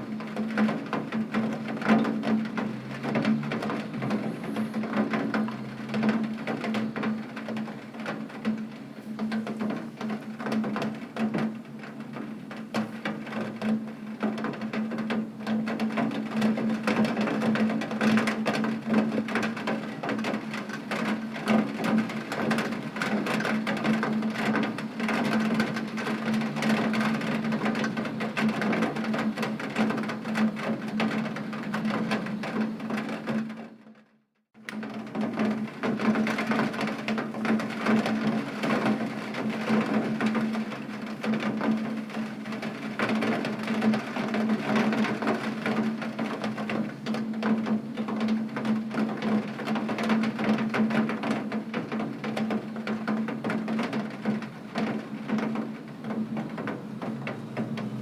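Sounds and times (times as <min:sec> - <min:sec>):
heavy rain on window glass: 0:00.0 - 0:58.0.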